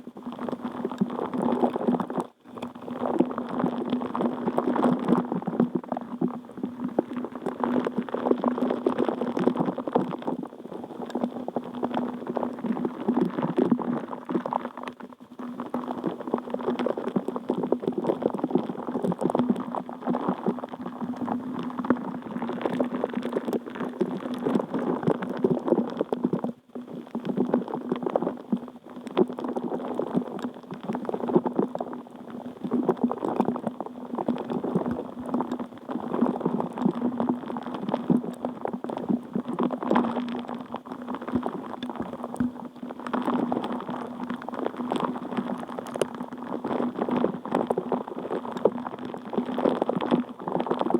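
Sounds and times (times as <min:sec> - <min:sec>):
water bubbling: 0:00.1 - 0:50.9.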